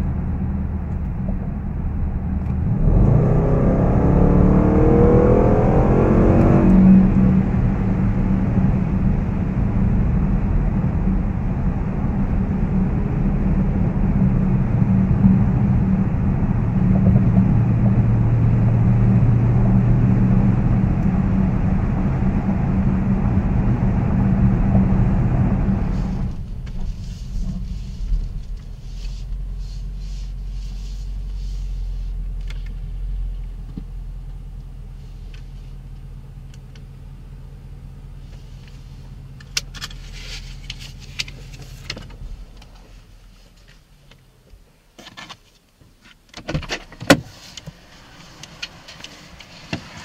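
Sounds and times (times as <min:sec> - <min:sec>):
car engine and road drone: 0:00.0 - 0:50.0.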